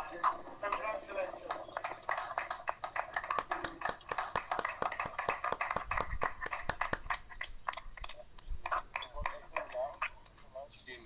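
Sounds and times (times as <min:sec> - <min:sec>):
people clapping: 0:00.0 - 0:09.9.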